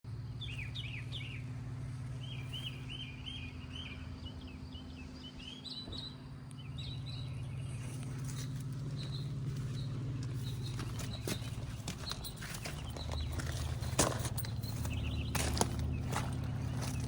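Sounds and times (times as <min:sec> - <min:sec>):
birds chirping: 0:00.1 - 0:17.0
pickup engine idling: 0:00.1 - 0:17.0.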